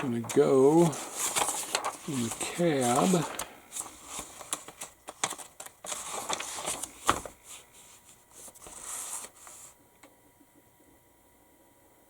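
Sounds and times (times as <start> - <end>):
paper rustling and crackling: 0.0 - 9.8.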